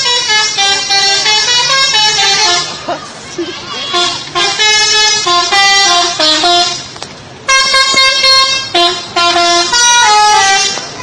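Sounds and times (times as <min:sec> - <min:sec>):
musical bus horn tune: 0:00.0 - 0:11.0.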